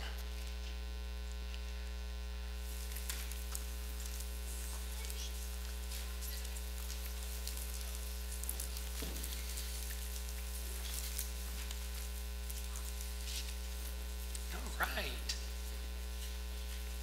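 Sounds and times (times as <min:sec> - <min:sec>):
electrical mains hum: 0:00.0 - 0:17.0
faint clicks and rustles: 0:02.6 - 0:17.0.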